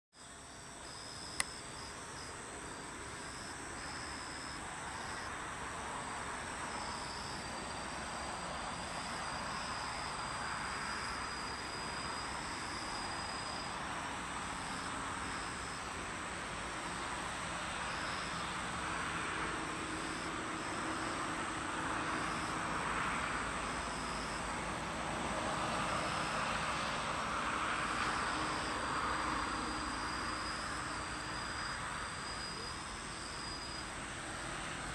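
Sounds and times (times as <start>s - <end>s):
insects trilling: 0.2s - 34.9s.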